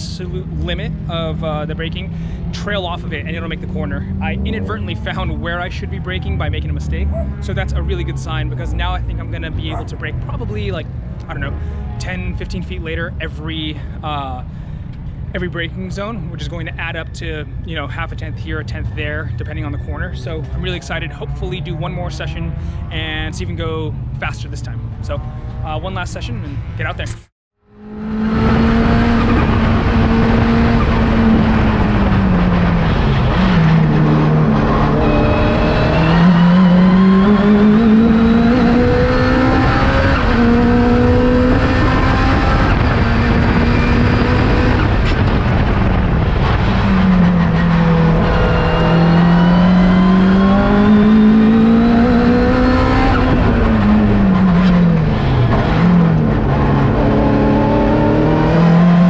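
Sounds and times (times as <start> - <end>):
race car engine accelerating: 0.0 - 14.5, 17.9 - 59.0.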